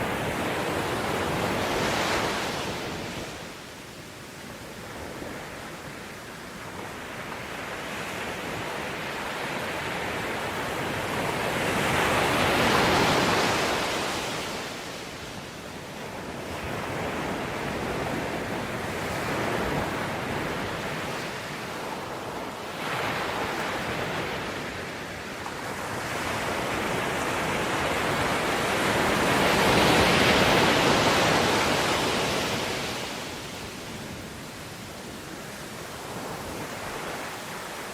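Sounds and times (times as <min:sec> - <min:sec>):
ocean waves breaking: 0:06.8 - 0:37.9.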